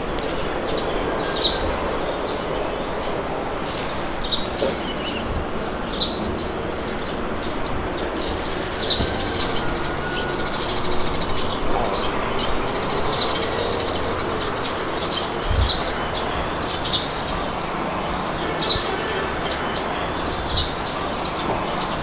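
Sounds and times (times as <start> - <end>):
birds chirping: 0.0 - 22.0
wind blowing: 0.0 - 22.0.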